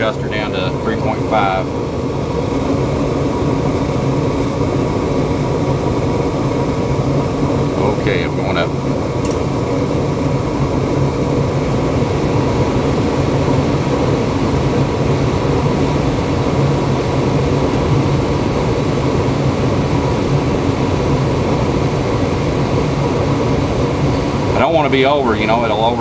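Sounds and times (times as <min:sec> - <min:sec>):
gas furnace burners and fans rushing: 0:00.0 - 0:26.0
low hum: 0:00.0 - 0:26.0.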